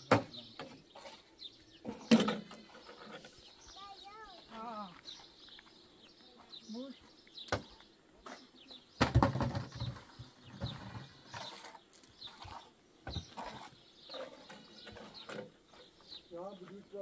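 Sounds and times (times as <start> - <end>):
bird chirps: 0.0 - 17.0.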